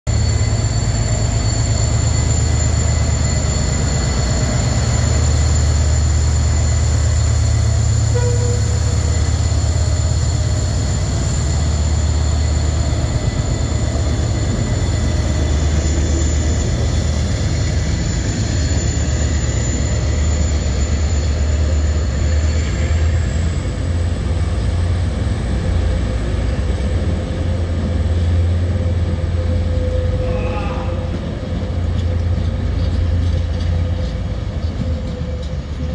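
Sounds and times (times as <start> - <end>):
diesel locomotive engine rumbling: 0.0 - 35.9.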